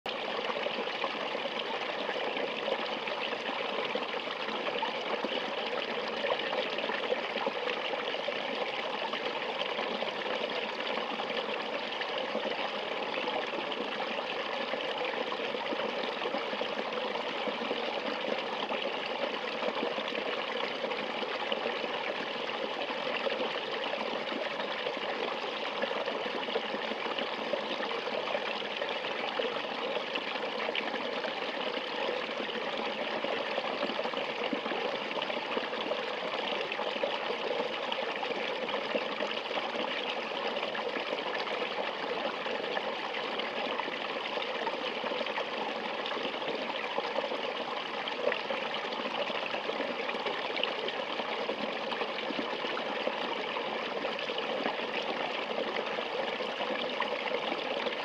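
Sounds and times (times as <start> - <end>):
stream running over rocks: 0.1 - 58.0.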